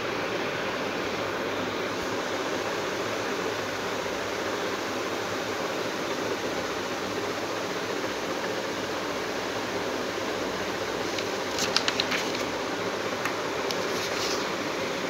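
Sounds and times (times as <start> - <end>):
steady room noise hiss: 0.0 - 15.0.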